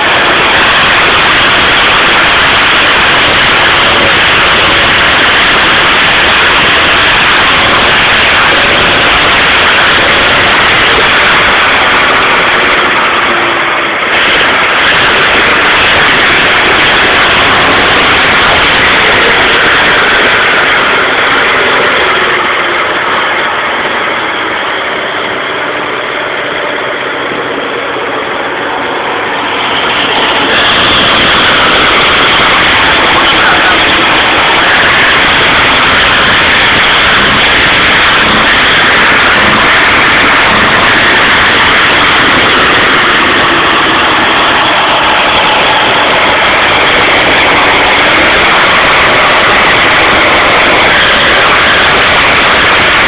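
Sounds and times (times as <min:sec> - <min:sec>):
car engine exhaust rumbling: 0:00.0 - 0:53.0.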